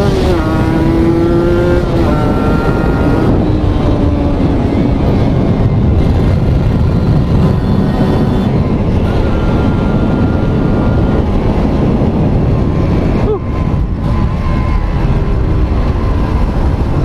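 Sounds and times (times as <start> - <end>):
two-stroke motorcycle engine running: 0.0 - 17.0.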